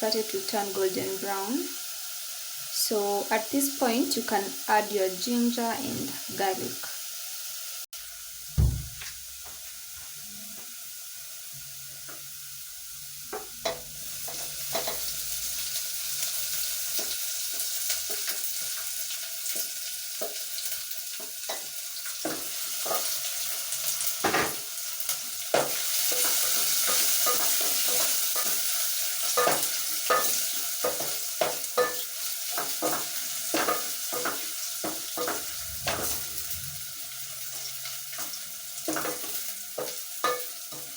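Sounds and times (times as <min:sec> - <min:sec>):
onions sizzling in oil: 0:00.0 - 0:40.9.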